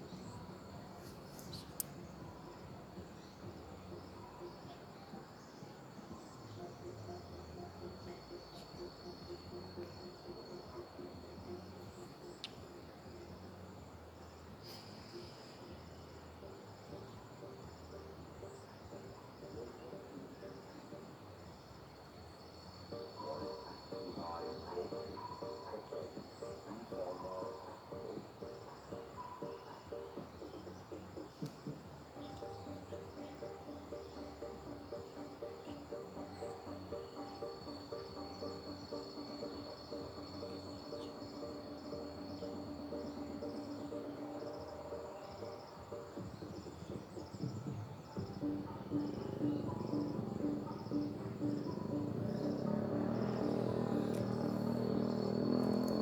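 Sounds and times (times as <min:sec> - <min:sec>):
faint low pulsing sound: 0:00.0 - 0:56.0
insects chirping in trills: 0:00.0 - 0:56.0.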